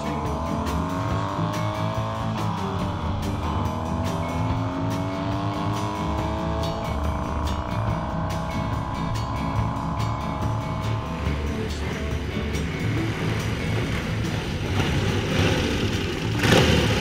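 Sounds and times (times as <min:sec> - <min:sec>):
motorcycle engine accelerating: 0:00.0 - 0:17.0
music with steady beat: 0:00.0 - 0:17.0.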